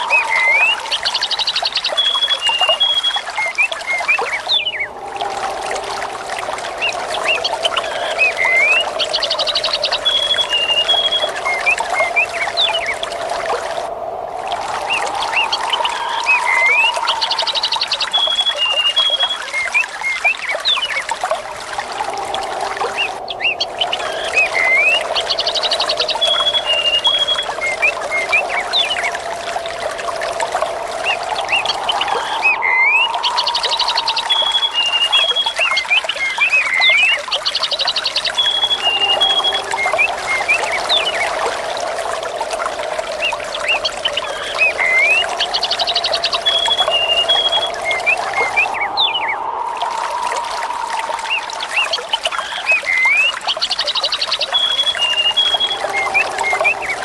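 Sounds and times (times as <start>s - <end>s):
birds chirping: 0.0s - 14.0s, 14.8s - 57.0s
trickling water: 0.0s - 57.0s
wind whistling: 0.0s - 57.0s.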